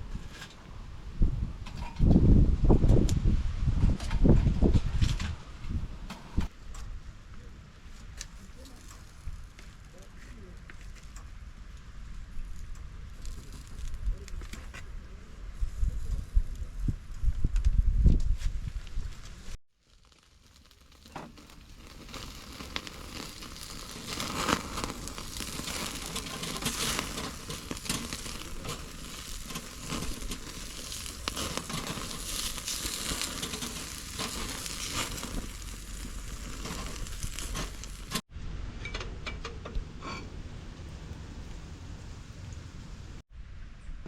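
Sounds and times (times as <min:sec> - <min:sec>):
crackling sizzling noise: 0:03.9 - 0:38.3, 0:40.0 - 0:43.2.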